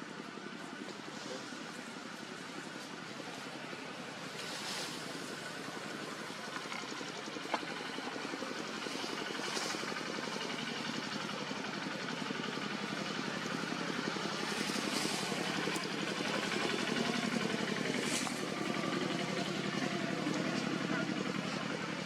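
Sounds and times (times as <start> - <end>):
engine running with fast pulse: 0.0 - 22.0.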